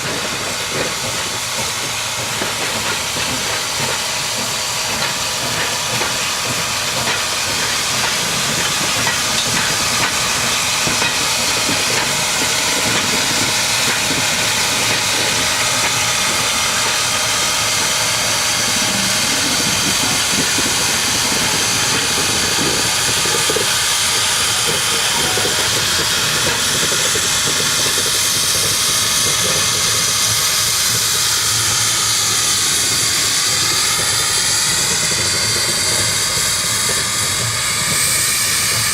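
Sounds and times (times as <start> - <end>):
train hissing: 0.0 - 38.9.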